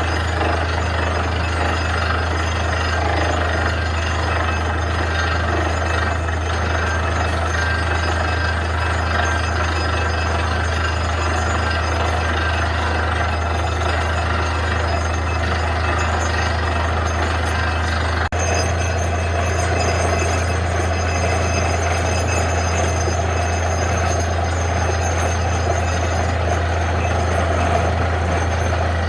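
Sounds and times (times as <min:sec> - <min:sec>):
drilling rig running: 0:00.0 - 0:29.0.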